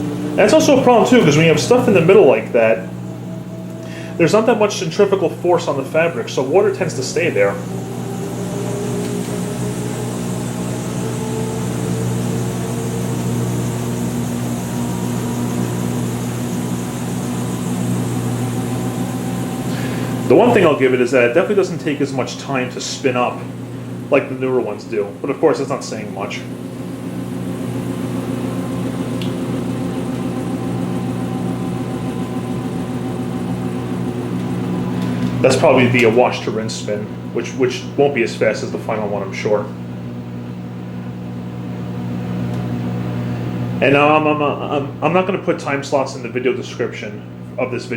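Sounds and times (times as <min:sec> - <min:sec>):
washing machine spinning: 0:00.0 - 0:47.9.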